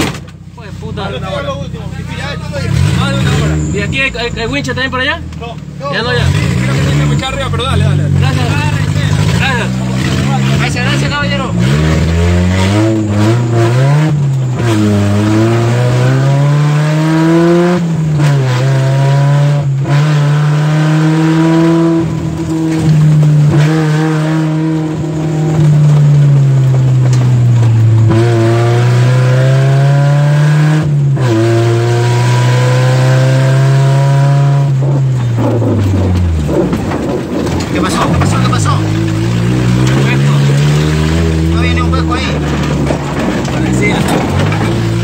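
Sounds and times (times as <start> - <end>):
off-road vehicle engine accelerating: 0.0 - 45.0.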